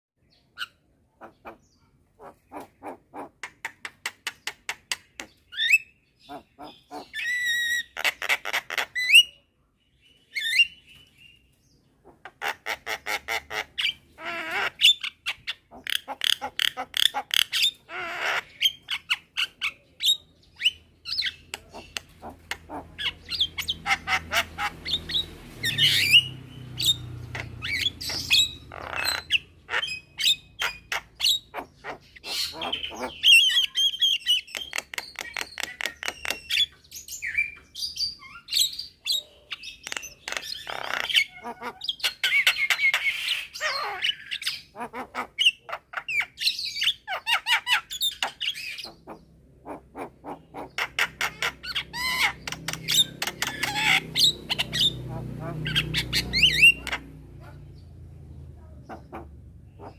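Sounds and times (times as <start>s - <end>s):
birds calling: 0.2s - 59.9s.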